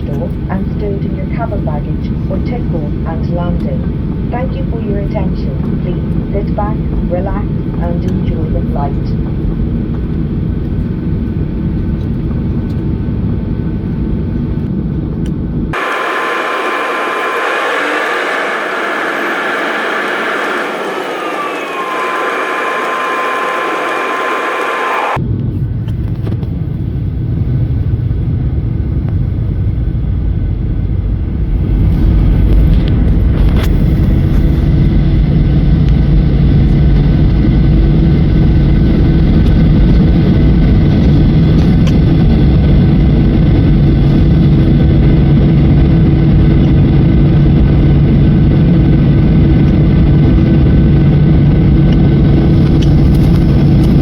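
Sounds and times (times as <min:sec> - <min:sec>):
jet engine rumble: 0:00.0 - 0:54.0
jet engine whine: 0:00.0 - 0:54.0.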